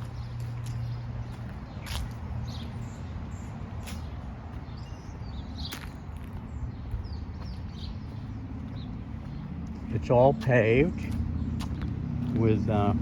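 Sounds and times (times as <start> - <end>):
highway traffic rumble: 0.0 - 13.0
small birds chirping: 0.0 - 13.0.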